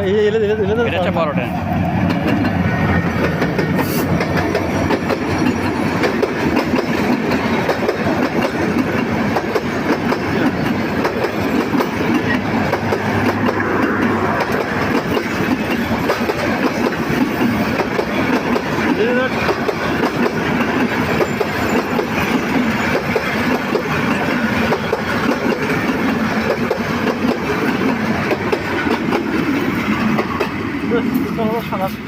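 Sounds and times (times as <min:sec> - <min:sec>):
train wheels rattling on rails: 0:00.0 - 0:32.0.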